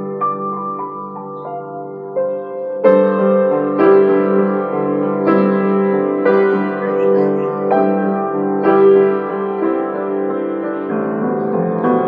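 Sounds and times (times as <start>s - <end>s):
grand piano chords: 0.0s - 12.0s.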